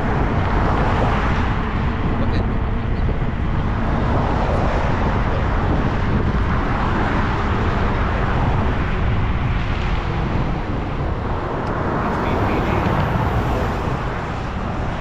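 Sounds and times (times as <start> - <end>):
road noise rumble: 0.0 - 15.0
wind noise on microphone: 0.0 - 15.0.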